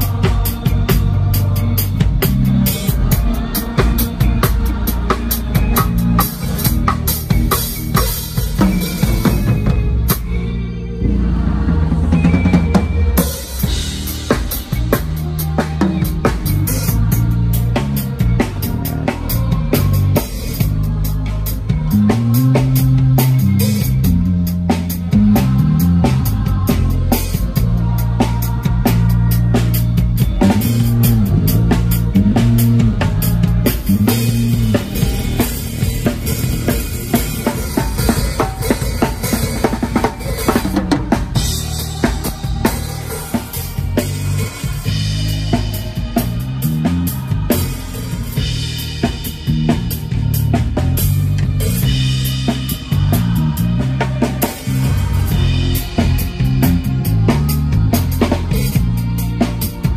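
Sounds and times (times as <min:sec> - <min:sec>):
band music with drum kit: 0:00.0 - 0:59.9
sliding bass line: 0:00.0 - 0:59.9.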